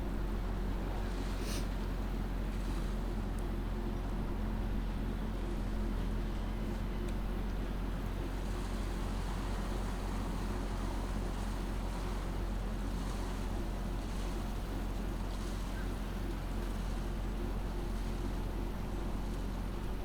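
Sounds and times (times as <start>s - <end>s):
outdoor ambience rumble and hiss: 0.0s - 20.0s.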